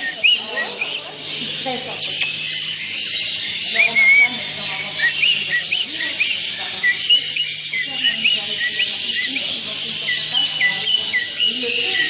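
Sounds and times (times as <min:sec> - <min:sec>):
birds chirping: 0:00.0 - 0:12.0
high chatter of birds: 0:00.0 - 0:12.0.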